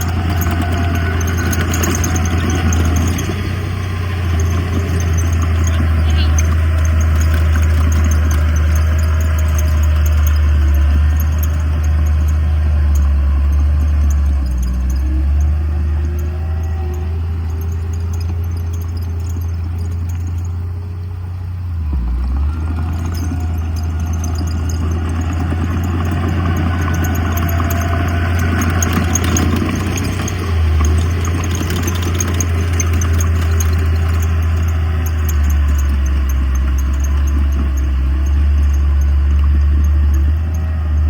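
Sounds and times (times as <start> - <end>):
mechanical rattling: 0.0 - 21.0, 22.2 - 41.0
diesel engine running: 0.0 - 41.0.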